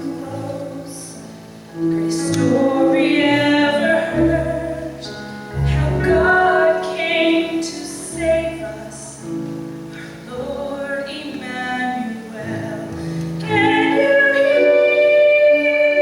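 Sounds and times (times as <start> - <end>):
woman singing: 0.0 - 16.0.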